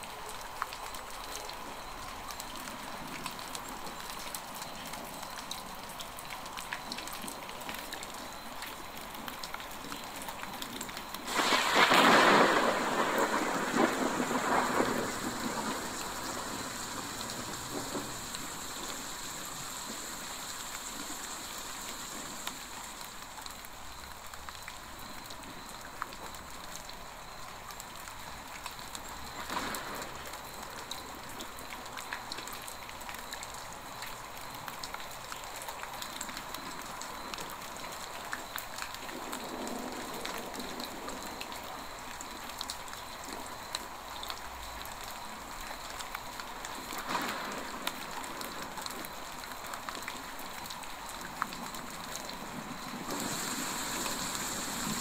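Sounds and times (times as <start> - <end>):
raindrop ticks: 0.0 - 55.0
steady rain falling: 0.0 - 55.0.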